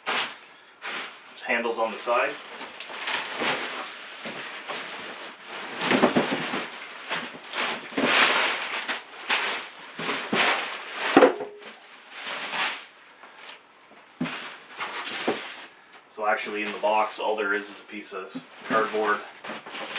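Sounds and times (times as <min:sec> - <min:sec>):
packaging scraping and crunching: 0:00.0 - 0:13.6, 0:14.3 - 0:15.8, 0:18.5 - 0:19.9.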